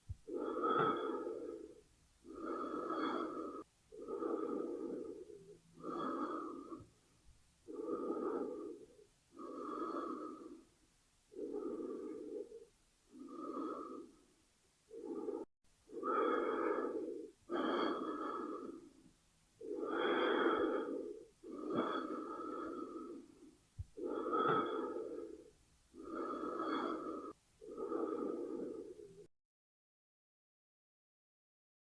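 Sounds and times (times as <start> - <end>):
person breathing slowly: 0.0 - 29.3.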